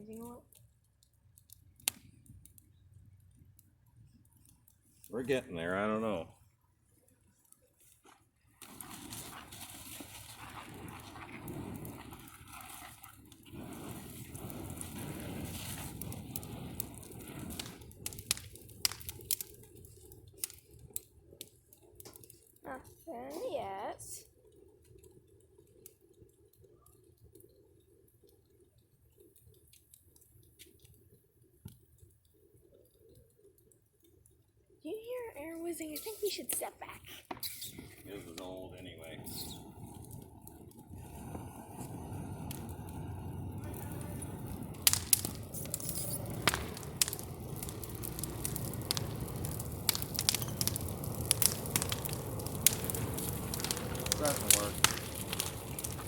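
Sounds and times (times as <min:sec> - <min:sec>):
campfire crackling: 0:00.0 - 0:56.0
low rushing of flames: 0:00.0 - 0:56.0.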